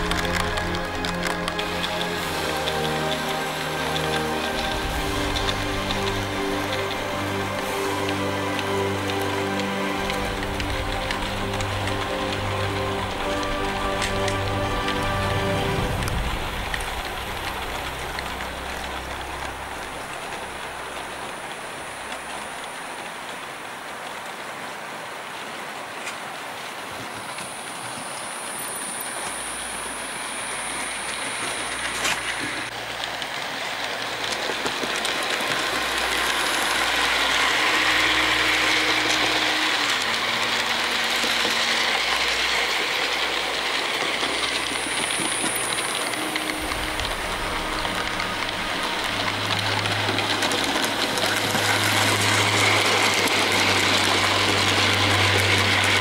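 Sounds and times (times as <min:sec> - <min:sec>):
model train wheels rattling on rails: 0:00.0 - 0:24.7, 0:28.4 - 0:56.0.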